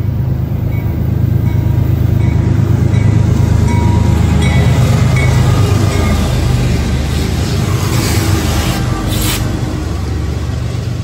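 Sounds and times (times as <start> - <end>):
locomotive engine rumble: 0.0 - 11.0
train rushing over rails: 0.0 - 11.0.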